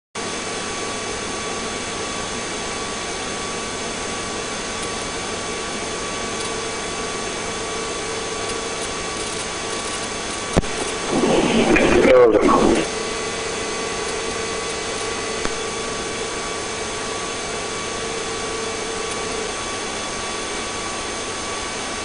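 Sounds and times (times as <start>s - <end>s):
helicopter in flight: 0.2s - 22.0s
faint constant whining tones: 0.4s - 22.0s.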